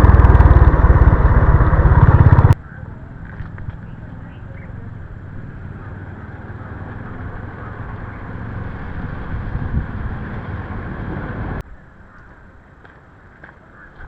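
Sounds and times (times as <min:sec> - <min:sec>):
motorcycle engine running: 0:00.0 - 0:11.6
rush of air and road noise: 0:00.0 - 0:14.0.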